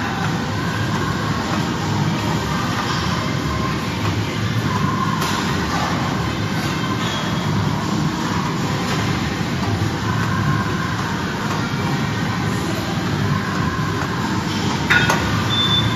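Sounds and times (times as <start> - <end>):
gym machinery whirring: 0.0 - 15.9.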